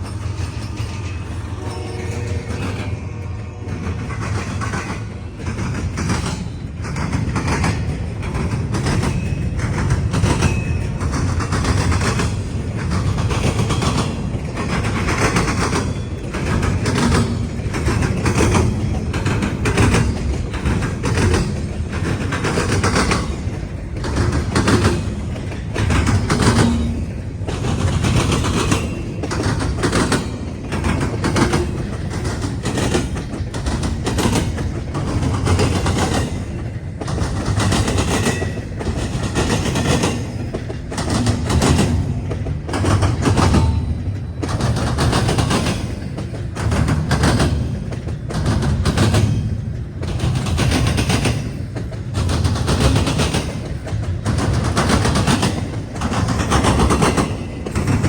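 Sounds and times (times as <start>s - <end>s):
rumble of passing train cars: 0.0s - 58.0s
train wheels banging over crossing: 0.0s - 58.0s.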